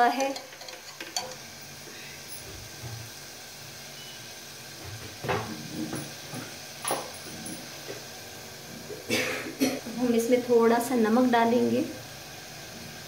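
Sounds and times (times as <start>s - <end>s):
noodles simmering hiss: 0.0s - 13.0s.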